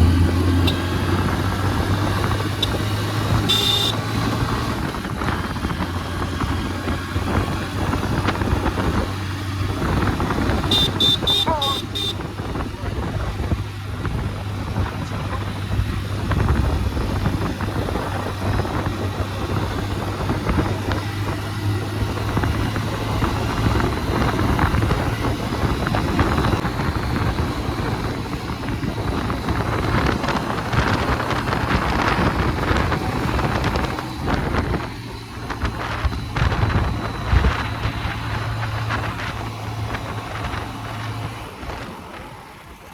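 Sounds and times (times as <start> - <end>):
motorcycle engine running: 0.0 - 42.9
wind on microphone: 4.2 - 42.3.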